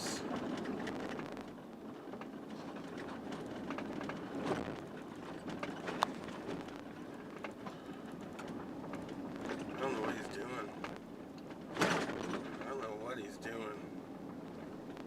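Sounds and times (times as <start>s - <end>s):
tyres rumbling on gravel: 0.0s - 15.0s.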